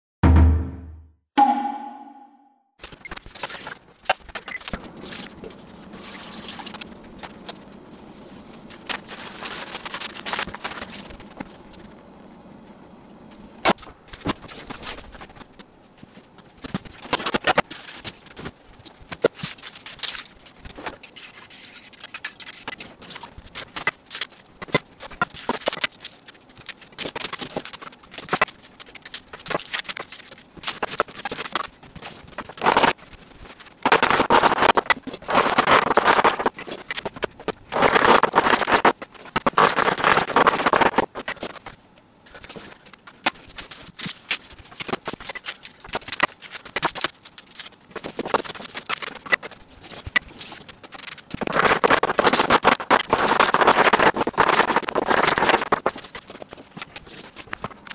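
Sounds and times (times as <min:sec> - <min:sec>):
onion skins rustling and crackling: 0:02.8 - 0:11.9, 0:16.5 - 0:57.9.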